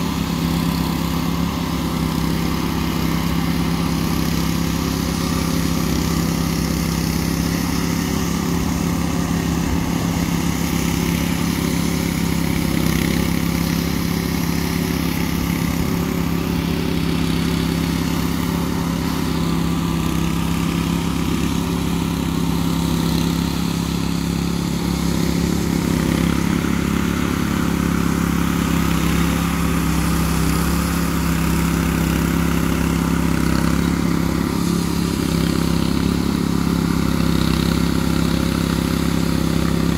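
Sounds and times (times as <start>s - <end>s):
power trowel engines running: 0.0s - 39.9s.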